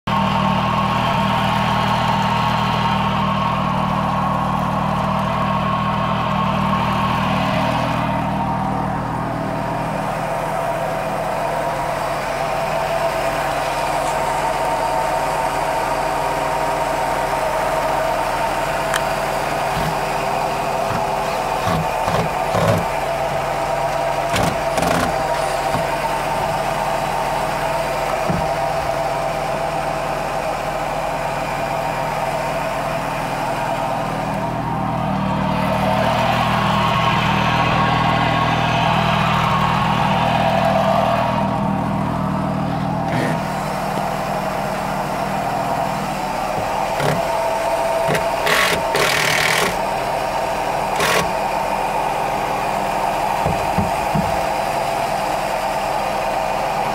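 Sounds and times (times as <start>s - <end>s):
boat engine idling: 0.1s - 56.9s.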